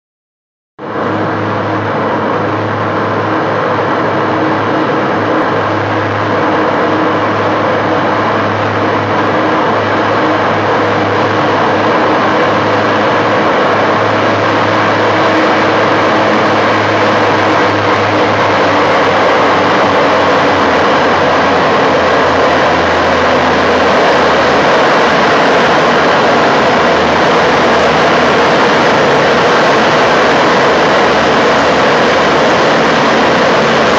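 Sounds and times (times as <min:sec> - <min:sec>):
low steady hum: 0:00.8 - 0:33.9
rail vehicle engine running: 0:00.8 - 0:33.9.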